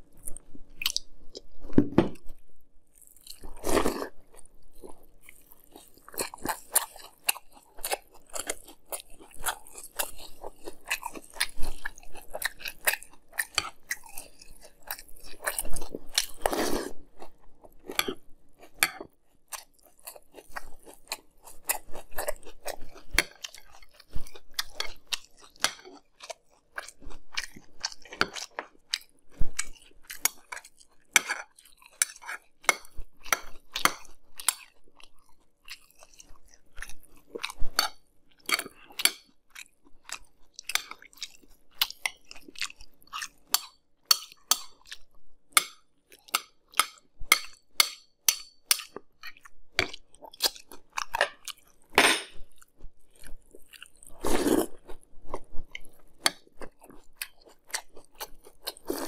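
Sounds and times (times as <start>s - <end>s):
crunchy chewing of cereal: 2.9s - 45.2s, 48.4s - 59.0s.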